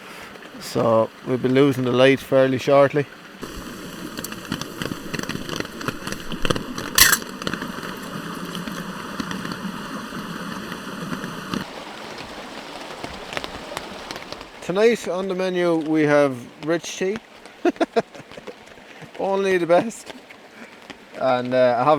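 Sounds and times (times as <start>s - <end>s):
steady rain falling: 0.0s - 21.9s.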